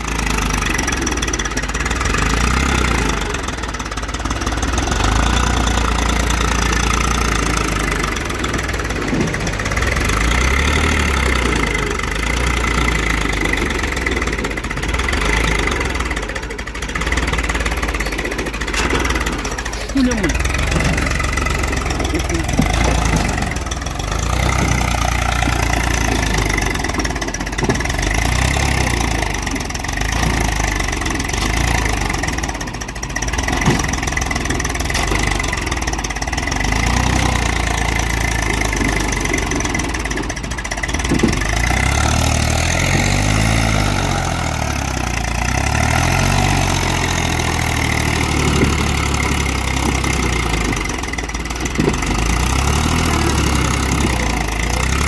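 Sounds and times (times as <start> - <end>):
tractor diesel engine labouring: 0.0 - 55.0.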